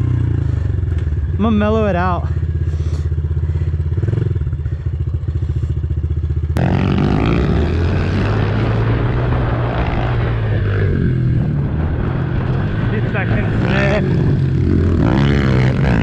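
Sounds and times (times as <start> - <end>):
motorbike engine: 0.0 - 16.0
wind and ground noise: 0.0 - 16.0.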